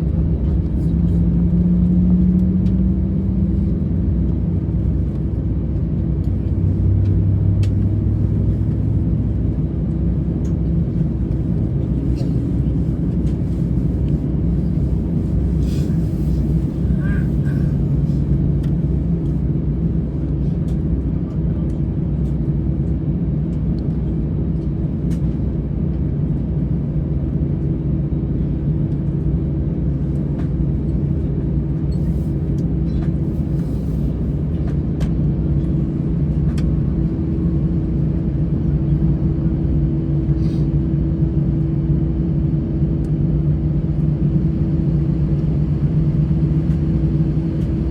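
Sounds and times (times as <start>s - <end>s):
jet engines rumbling: 0.0s - 47.9s.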